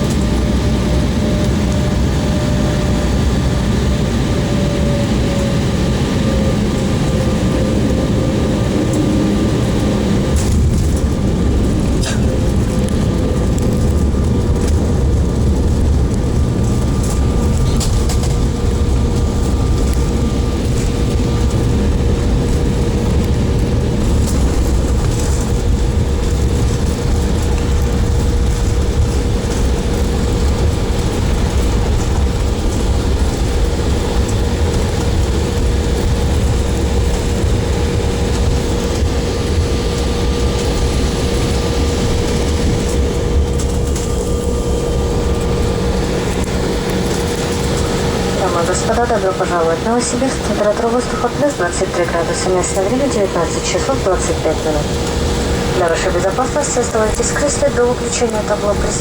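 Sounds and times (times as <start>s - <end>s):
airliner cabin low rumble: 0.0s - 59.0s
mid-pitched hum: 0.0s - 59.0s.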